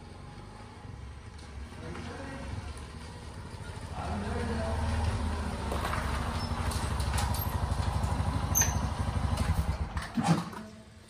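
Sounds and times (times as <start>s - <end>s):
scooter engine idling: 0.0s - 10.0s.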